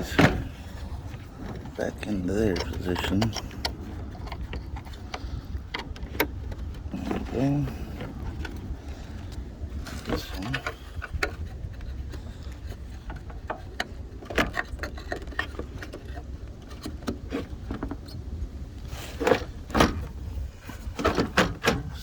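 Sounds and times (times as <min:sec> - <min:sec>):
plastic and metal parts clicking: 0:00.0 - 0:20.2
steady low rumble: 0:00.0 - 0:22.0.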